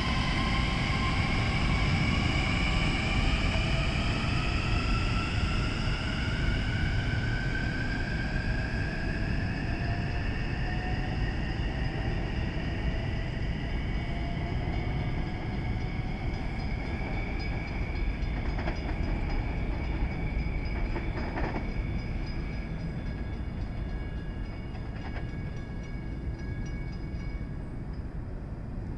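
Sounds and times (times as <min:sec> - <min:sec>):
train rumbling on track: 0:00.0 - 0:28.9.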